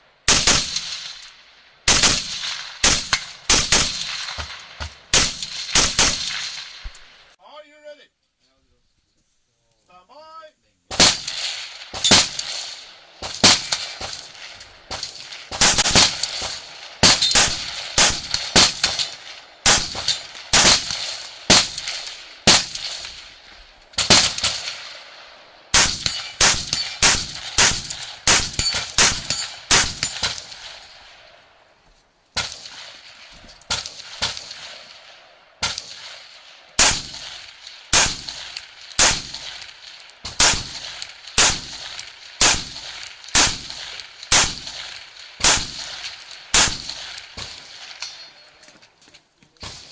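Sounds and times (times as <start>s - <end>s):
rifle shots echoing: 0.3s - 7.1s, 10.9s - 23.3s, 24.0s - 31.3s, 32.4s - 48.2s.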